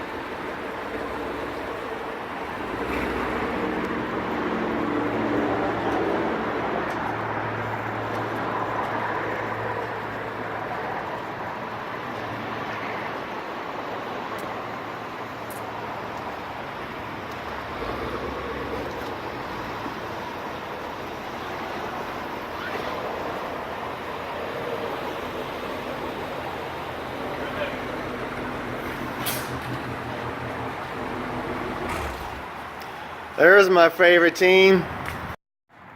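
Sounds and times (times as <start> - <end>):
low engine hum: 0.0 - 33.4
road and tyre noise: 0.0 - 35.9.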